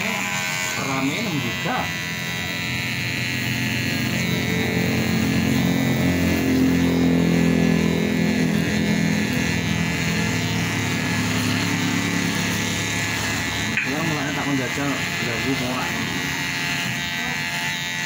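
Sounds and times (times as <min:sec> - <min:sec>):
electric hair clippers buzzing: 0:00.0 - 0:18.0.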